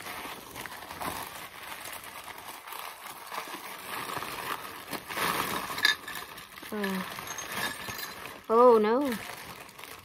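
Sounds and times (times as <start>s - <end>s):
packing wrap crinkling: 0.0s - 10.0s.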